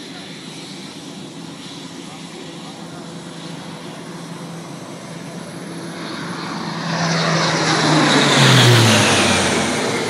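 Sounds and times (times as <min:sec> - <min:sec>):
propeller aircraft drone: 0:00.0 - 0:10.0.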